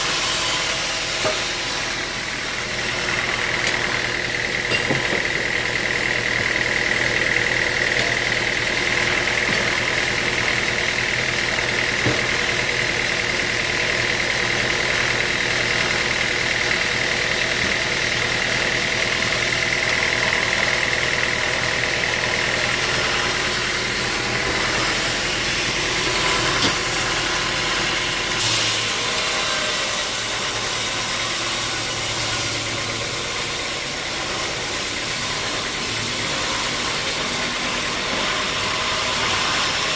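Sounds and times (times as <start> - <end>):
sawmill machinery engine hum: 0.0 - 39.9.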